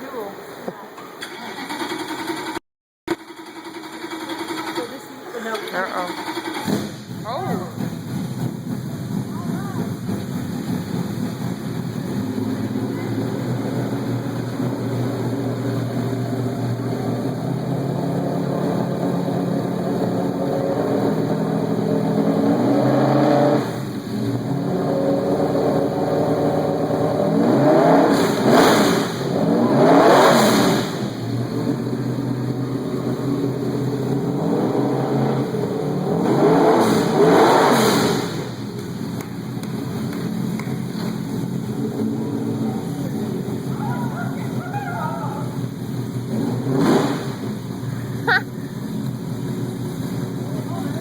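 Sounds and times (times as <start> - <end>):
race car engine revving: 1.2 - 51.0.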